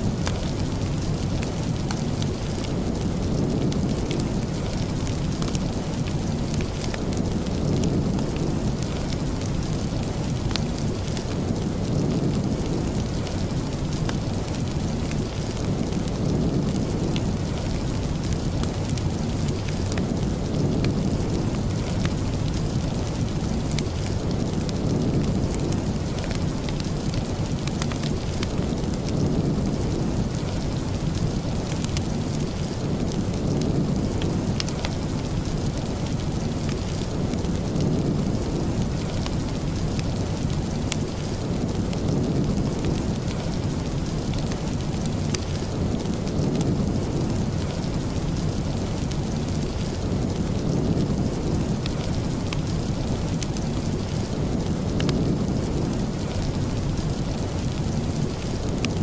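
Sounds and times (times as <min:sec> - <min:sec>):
sharp ticks and crackles: 0:00.0 - 0:59.0
steady rain: 0:00.0 - 0:59.0.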